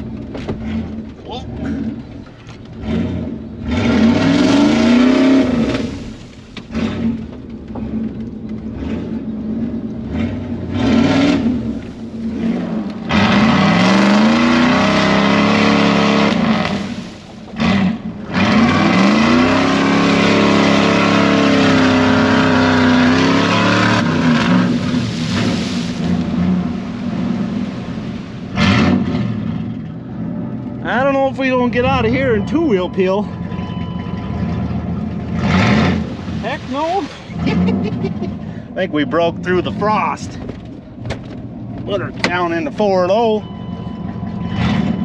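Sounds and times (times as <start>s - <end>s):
truck engine revving hard: 0.0s - 40.4s, 41.9s - 45.0s
tires spinning in mud: 0.0s - 45.0s.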